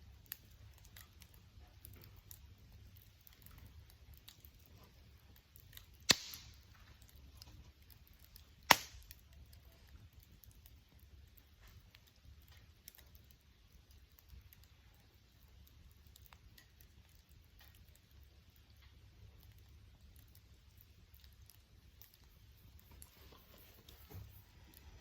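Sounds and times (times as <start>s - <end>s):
bonfire crackling: 0.0s - 25.0s
sharp pops from burning wood: 0.1s - 23.1s.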